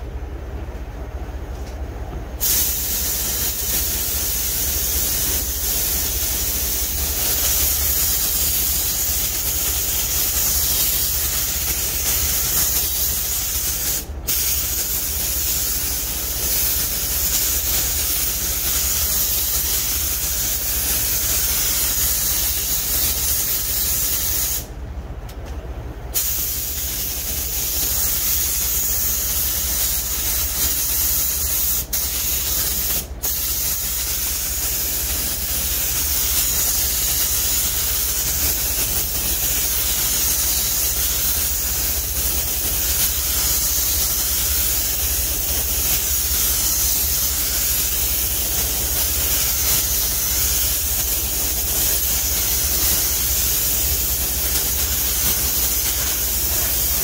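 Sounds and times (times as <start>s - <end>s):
paint spray gun hissing: 2.4s - 24.7s, 26.2s - 57.0s.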